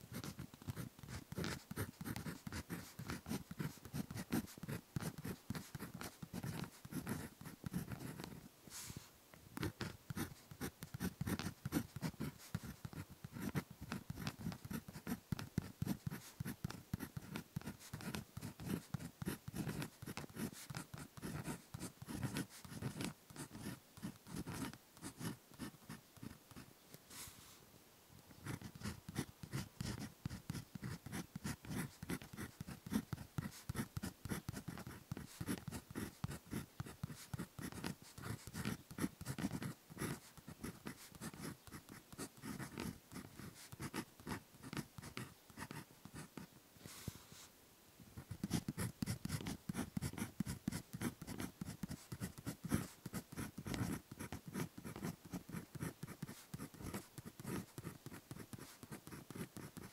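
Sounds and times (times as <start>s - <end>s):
pen scratching on paper: 0.1s - 8.9s, 9.6s - 26.6s, 28.4s - 47.2s, 48.2s - 59.9s.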